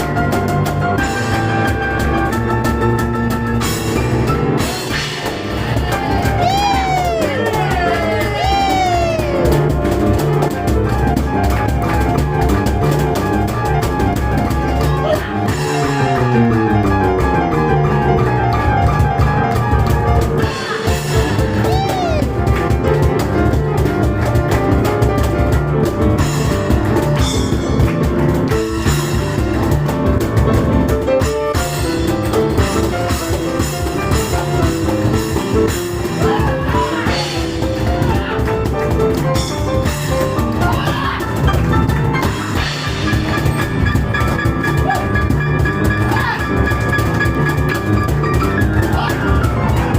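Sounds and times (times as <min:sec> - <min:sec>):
cajon drumming: 0:00.0 - 0:49.9
piano playing: 0:00.0 - 0:49.9.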